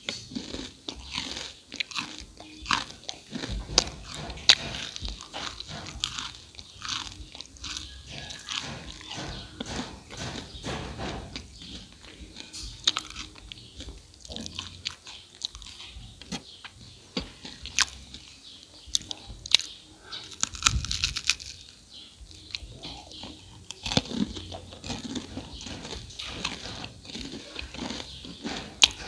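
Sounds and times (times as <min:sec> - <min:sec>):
crunchy chewing of rice cakes: 0:00.0 - 0:29.0.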